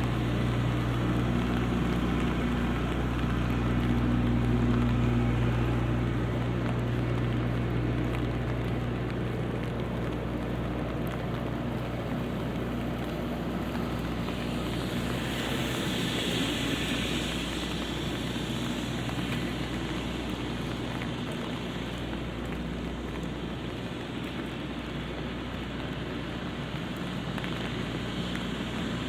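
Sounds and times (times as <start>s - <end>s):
city traffic hum: 0.0s - 29.0s
rain on an umbrella: 0.0s - 29.0s
tyre hiss on wet road: 0.0s - 29.0s.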